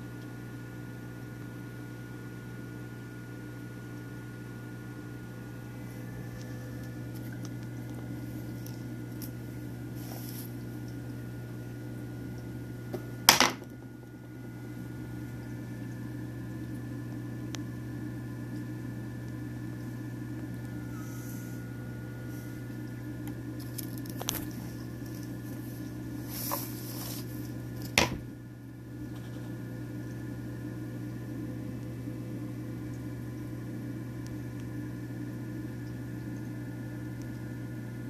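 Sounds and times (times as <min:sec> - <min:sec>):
aquarium pump humming: 0:00.0 - 0:38.0.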